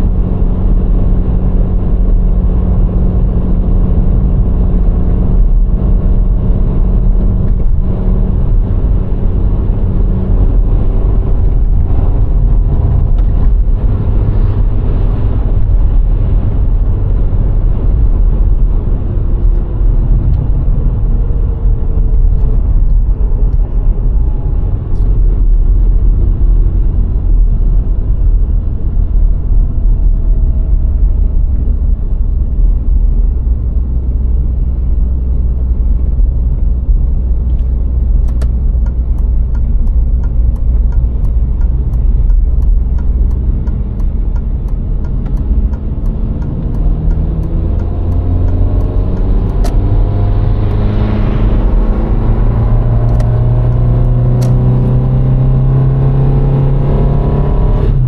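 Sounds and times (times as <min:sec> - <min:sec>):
car engine accelerating: 0:00.0 - 0:58.0
road and tyre rumble: 0:00.0 - 0:58.0.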